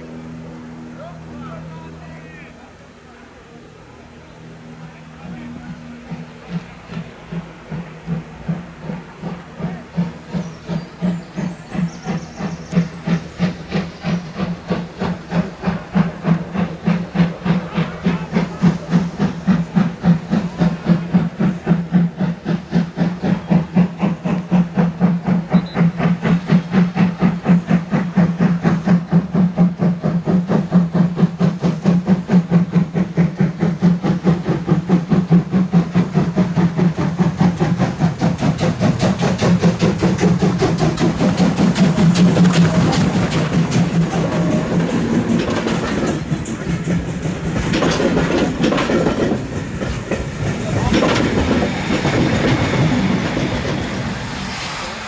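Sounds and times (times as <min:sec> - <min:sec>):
steam hissing: 0:00.0 - 0:55.0
steam locomotive chuffing: 0:00.0 - 0:55.0.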